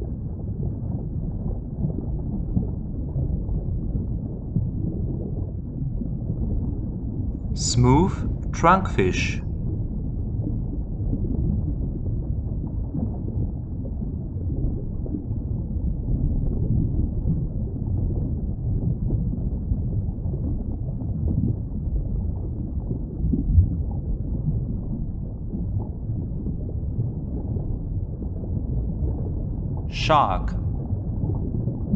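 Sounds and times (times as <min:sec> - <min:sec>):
underwater rumble of water: 0:00.0 - 0:31.9.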